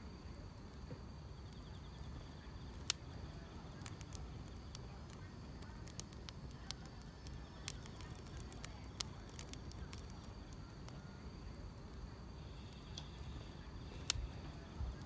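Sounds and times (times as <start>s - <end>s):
insects chirping faintly: 0.0s - 15.0s
wood fire crackling: 0.0s - 15.0s.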